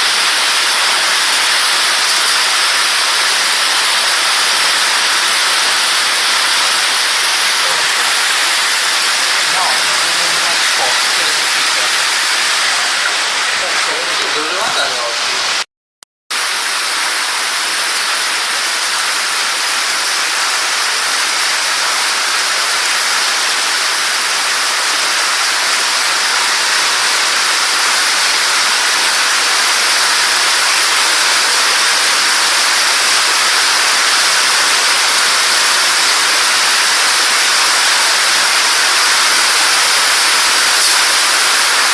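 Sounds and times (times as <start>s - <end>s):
hail and heavy rain: 0.0s - 15.6s, 16.3s - 41.9s.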